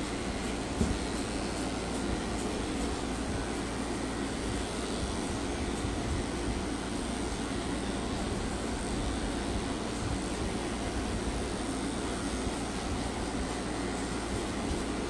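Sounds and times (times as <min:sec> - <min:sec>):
grooming clipper motor whir: 0:00.0 - 0:15.0.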